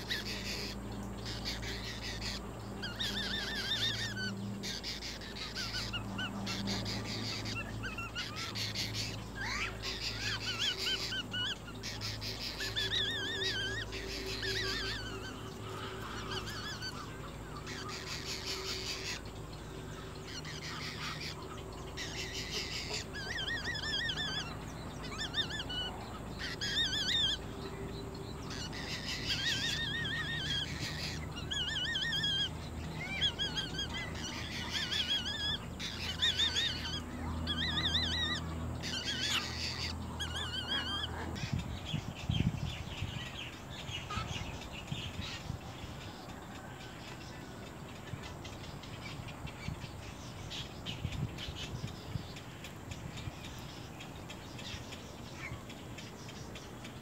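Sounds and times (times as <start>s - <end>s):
egret chicks calling: 0.0s - 57.0s
steady low hum: 0.0s - 57.0s.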